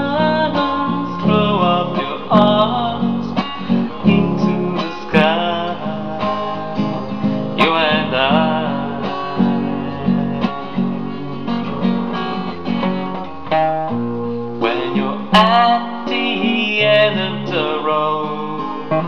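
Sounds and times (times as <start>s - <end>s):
person singing: 0.0s - 12.5s, 14.6s - 19.0s
acoustic guitar strumming: 0.0s - 19.0s.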